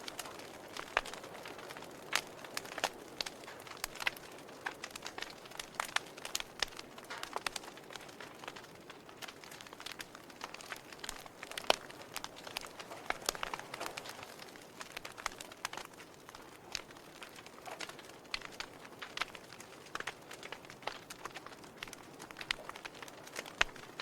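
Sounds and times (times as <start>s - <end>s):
soft steady hiss: 0.0s - 24.0s
wood fire crackling: 0.0s - 24.0s.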